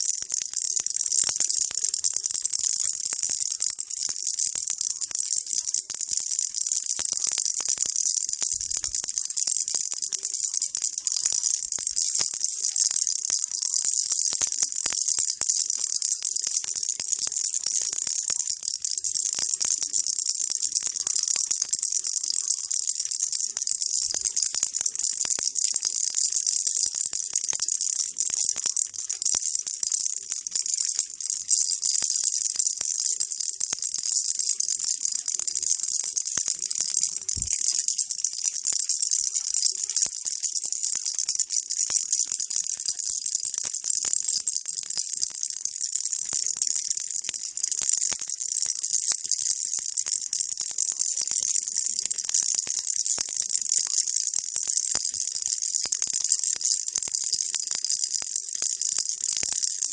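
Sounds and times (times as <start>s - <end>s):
baby rattle shaking: 0.0s - 59.9s.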